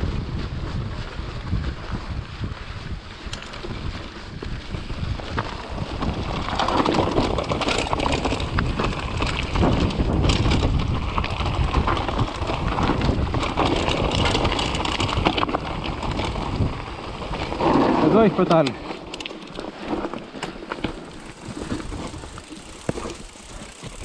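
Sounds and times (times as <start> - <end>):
wind buffeting microphone: 0.0 - 18.9, 20.8 - 24.0
mountain bike rattling on rocks: 0.0 - 24.0.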